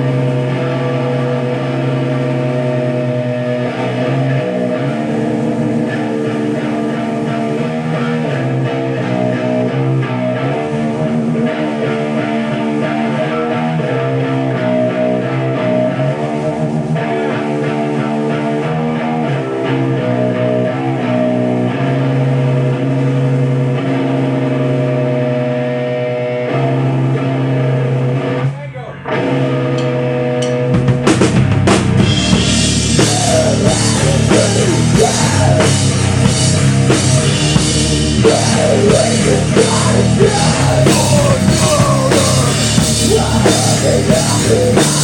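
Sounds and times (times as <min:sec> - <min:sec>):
bass guitar: 0:00.0 - 0:45.0
electric guitar chords: 0:00.0 - 0:45.0.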